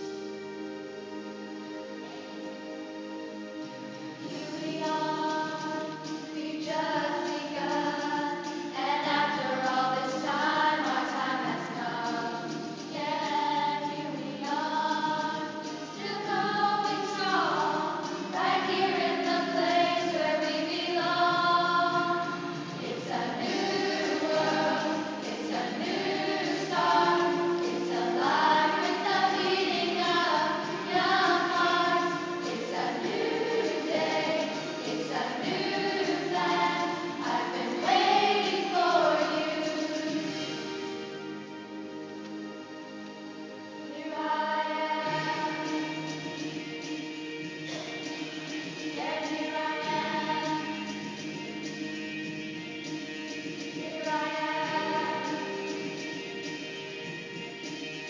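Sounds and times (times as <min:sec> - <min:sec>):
choir singing: 0:03.6 - 0:41.5, 0:43.8 - 0:46.7, 0:47.7 - 0:51.7, 0:53.5 - 0:56.2.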